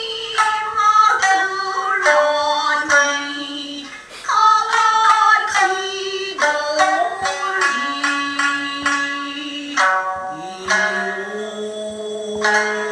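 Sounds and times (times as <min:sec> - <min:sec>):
shamisen plucks: 0:00.0 - 0:12.9
woman singing long held notes: 0:00.0 - 0:12.9.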